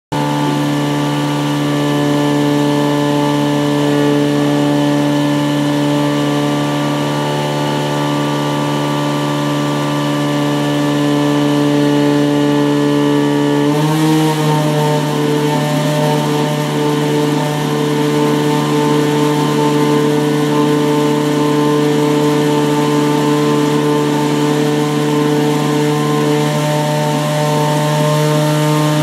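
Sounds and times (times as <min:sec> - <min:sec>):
rotary engine droning: 0:00.1 - 0:29.0.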